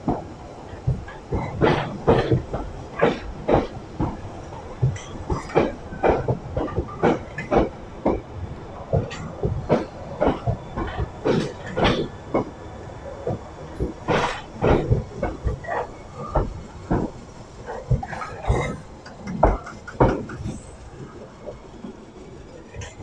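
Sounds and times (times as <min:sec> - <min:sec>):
train rumble: 0:00.0 - 0:23.0
train wheels clacking: 0:00.0 - 0:23.0.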